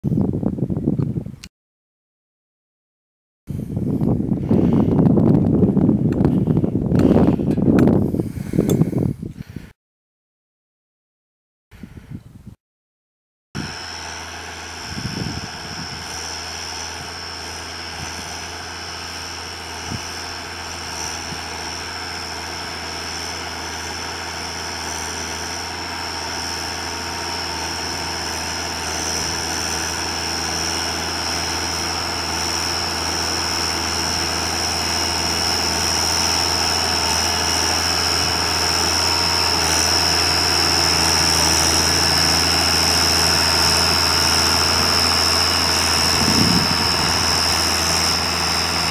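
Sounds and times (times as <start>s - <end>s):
tractor diesel engine under load: 3.5s - 9.8s, 13.6s - 48.9s.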